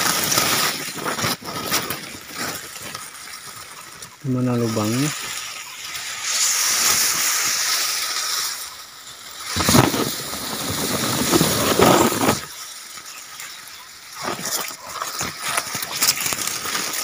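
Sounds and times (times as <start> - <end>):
grass rustling against microphone: 0.0 - 17.0.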